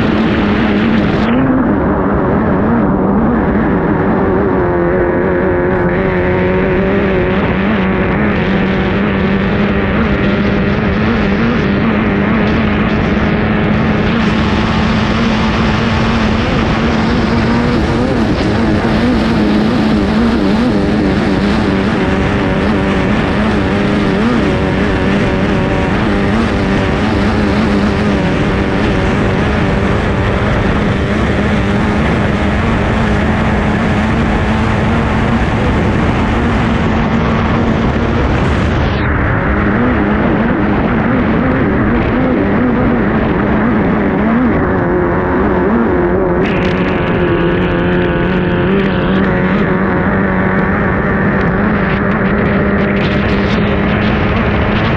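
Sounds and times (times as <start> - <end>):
outboard engine at full throttle: 0.0 - 54.9
wind rush: 0.0 - 54.9.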